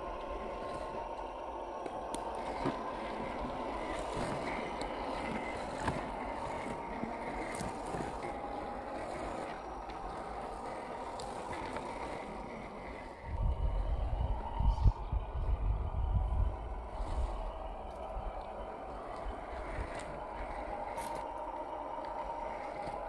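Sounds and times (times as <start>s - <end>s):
electric motor whirring: 0.0s - 23.0s.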